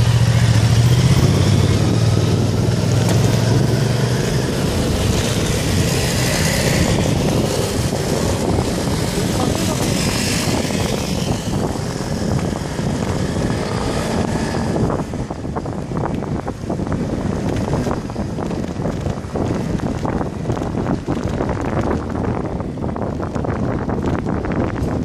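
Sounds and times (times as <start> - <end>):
motor scooters running: 0.0 - 25.0
wind buffeting microphone: 0.0 - 25.0.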